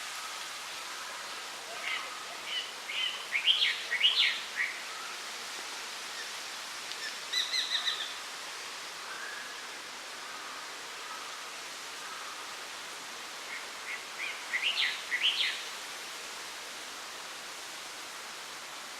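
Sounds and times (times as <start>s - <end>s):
outdoor background noise: 0.0s - 18.9s.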